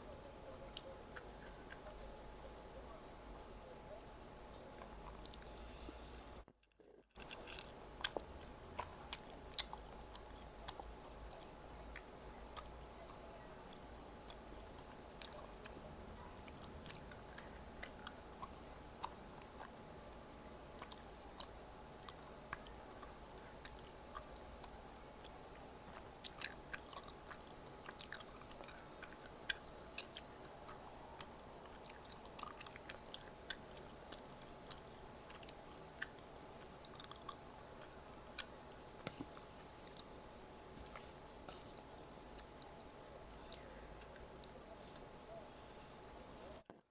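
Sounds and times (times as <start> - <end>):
person chewing food: 4.2 - 19.8, 20.7 - 46.8.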